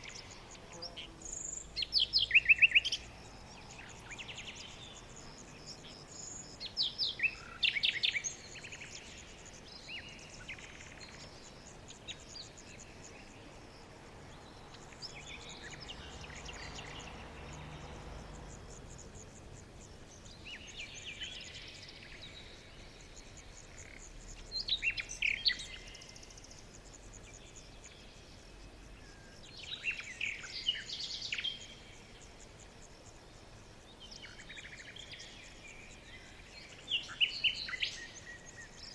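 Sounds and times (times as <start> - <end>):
birds chirping: 0.0 - 33.2
faint high insect-like hiss: 0.0 - 38.9.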